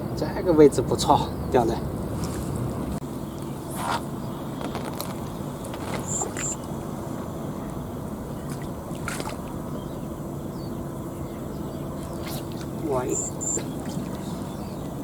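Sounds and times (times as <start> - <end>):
steady low hum: 0.0 - 15.0
water sloshing and gurgling: 2.0 - 15.0.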